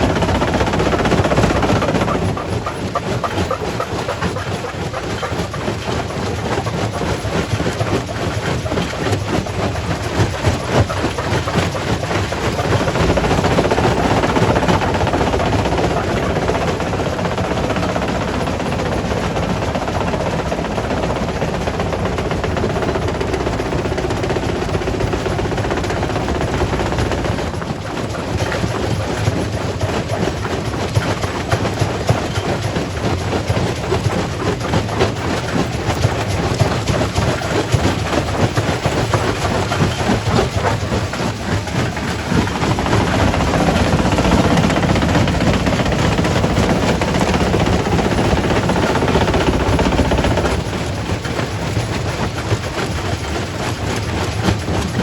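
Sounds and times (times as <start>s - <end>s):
rock crusher clattering: 0.0s - 19.0s, 22.4s - 55.0s
crusher low rumble: 0.0s - 30.0s, 39.5s - 55.0s.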